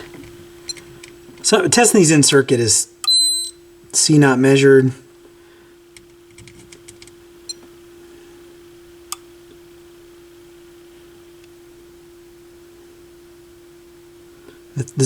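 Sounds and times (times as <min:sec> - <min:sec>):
test meter tone: 0:00.0 - 0:05.0, 0:06.9 - 0:15.0.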